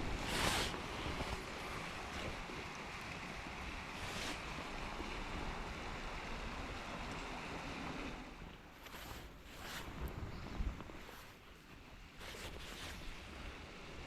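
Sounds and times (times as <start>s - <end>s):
wind buffeting microphone: 0.0s - 12.2s
creek rushing: 0.0s - 14.0s.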